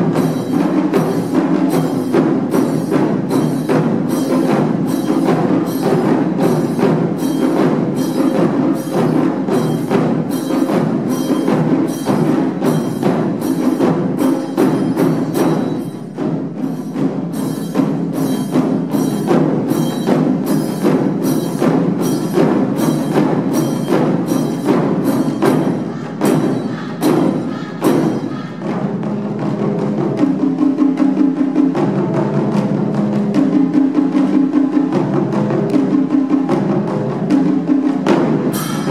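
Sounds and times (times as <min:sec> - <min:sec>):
taiko drums playing: 0:00.0 - 0:38.9.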